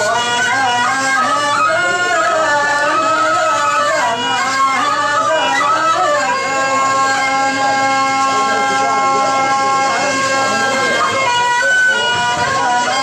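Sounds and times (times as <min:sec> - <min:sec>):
held drone note: 0:00.0 - 0:13.0
person singing ornamented melody: 0:00.0 - 0:13.0.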